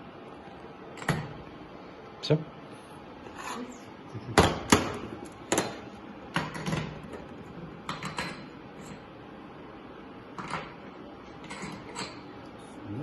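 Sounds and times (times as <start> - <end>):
faint workshop background: 0.0 - 13.0.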